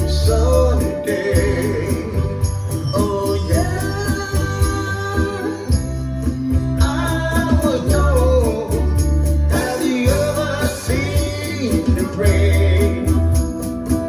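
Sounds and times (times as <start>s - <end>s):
bass: 0.0s - 14.0s
drums and cymbal beat: 0.0s - 14.0s
keyboard chords: 0.0s - 14.0s
person singing: 0.0s - 14.0s
pop-rock song: 0.0s - 14.0s.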